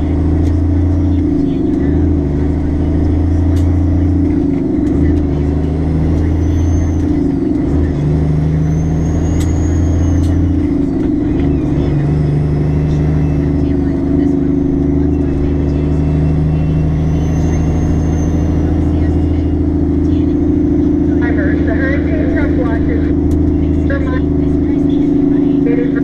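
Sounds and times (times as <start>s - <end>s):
truck diesel engine droning: 0.0s - 26.0s.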